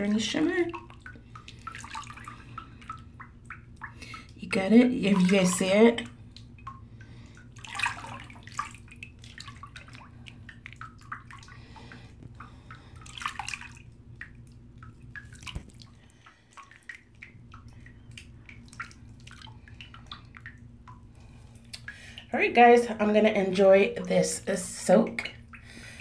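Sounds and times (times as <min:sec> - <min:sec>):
bathwater dripping and splashing: 0:00.0 - 0:26.0
faint steady low hum: 0:00.0 - 0:26.0.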